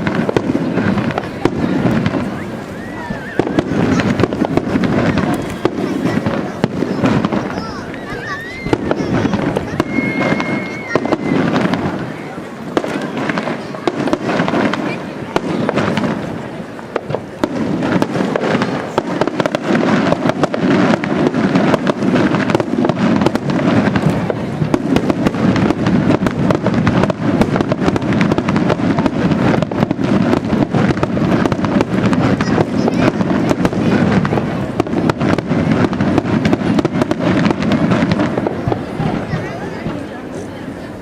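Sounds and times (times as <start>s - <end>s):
fireworks bursting and crackling: 0.0s - 41.0s.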